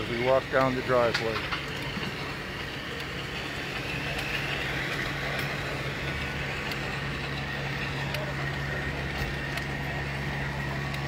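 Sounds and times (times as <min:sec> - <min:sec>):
low motor hum: 0:00.0 - 0:11.0
outdoor background noise: 0:00.0 - 0:11.0.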